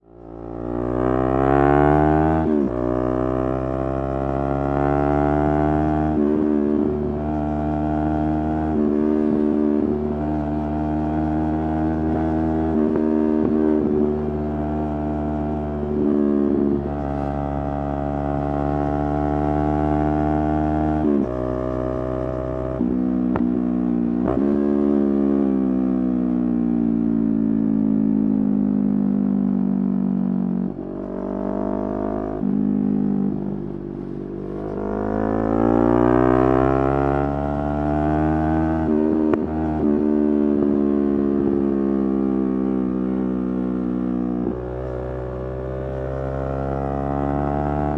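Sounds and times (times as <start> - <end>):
motorcycle engine revving: 0.2 - 27.2, 27.8 - 47.9.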